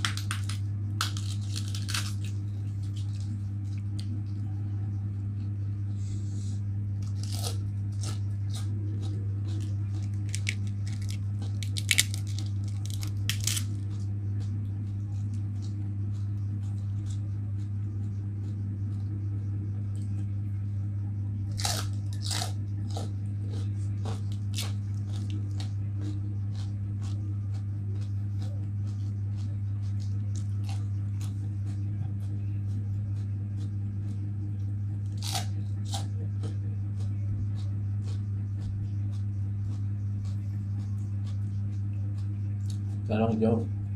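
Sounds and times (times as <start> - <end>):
cabbage chewed and torn crackling: 0.0 - 4.4, 7.0 - 19.2, 21.5 - 43.0
steady low hum: 0.0 - 43.9.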